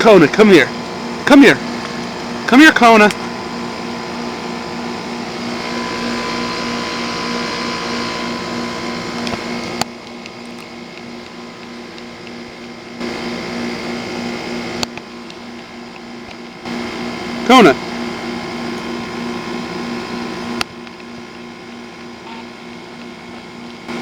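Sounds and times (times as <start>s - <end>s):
compressor humming: 0.0s - 24.0s
fan rushing: 0.0s - 24.0s.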